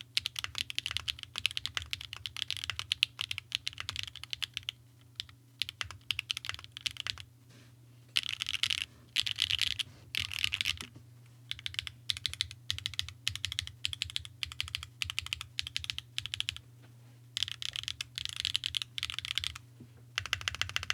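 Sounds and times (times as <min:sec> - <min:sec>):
mechanical keyboard typing: 0:00.2 - 0:07.2, 0:08.2 - 0:10.9, 0:11.5 - 0:16.6, 0:17.4 - 0:19.6, 0:20.2 - 0:20.9.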